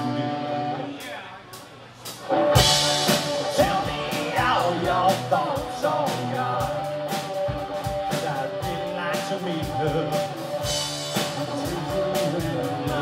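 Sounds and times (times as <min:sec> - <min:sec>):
live rock band playing: 0:00.0 - 0:01.0, 0:01.6 - 0:13.0
steady drum beat: 0:01.6 - 0:13.0
pitch-bending lead melody: 0:02.3 - 0:13.0.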